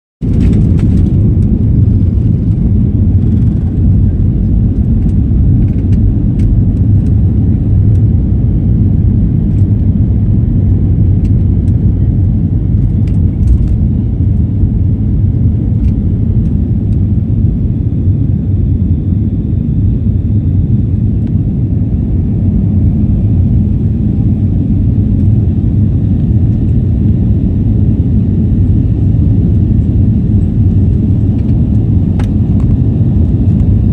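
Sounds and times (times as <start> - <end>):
jet engines rumbling: 0.2 - 33.9.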